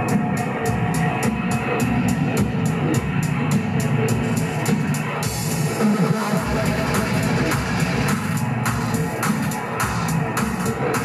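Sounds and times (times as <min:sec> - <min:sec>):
rock music with drums and guitar: 0:00.0 - 0:11.0.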